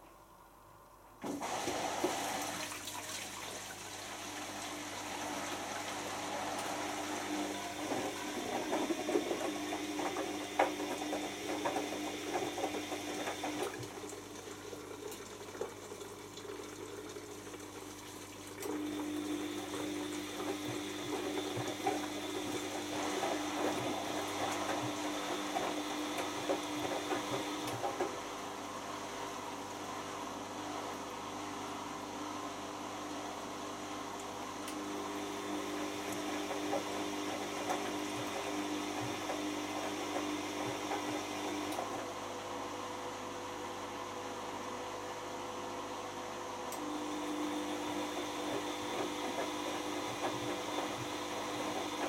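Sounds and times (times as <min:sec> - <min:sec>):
drain pump hum: 0:00.1 - 0:52.0.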